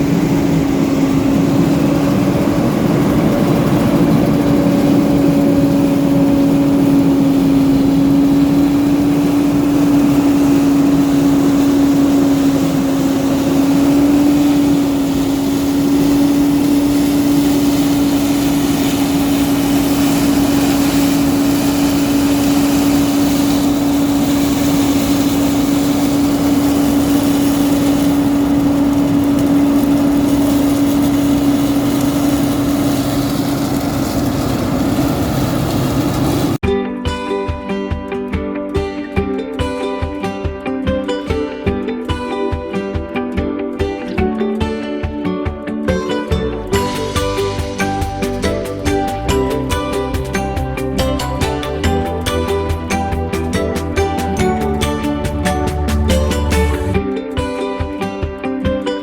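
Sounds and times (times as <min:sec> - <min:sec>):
heavy diesel engine running: 0:00.0 - 0:36.6, 0:45.9 - 0:57.1.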